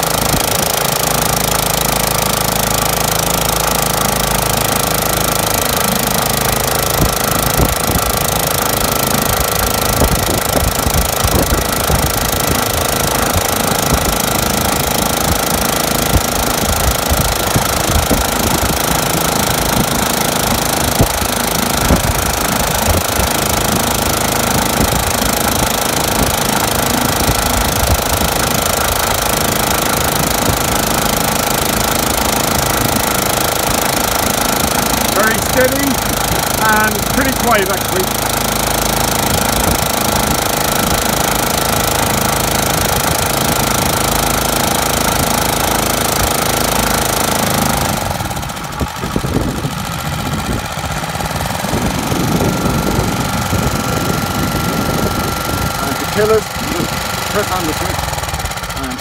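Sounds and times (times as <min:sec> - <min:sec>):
boat outboard engine running: 0:00.0 - 0:59.0.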